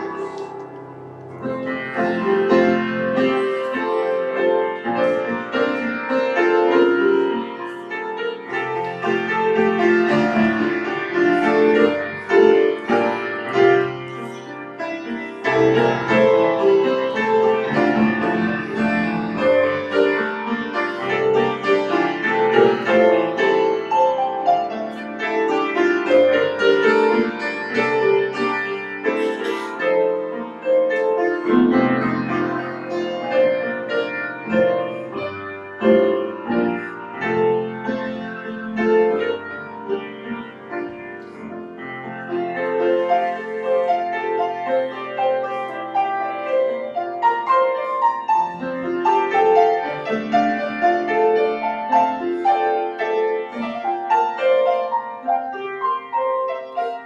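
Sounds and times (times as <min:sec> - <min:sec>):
slow grand piano piece: 0:00.0 - 0:57.0.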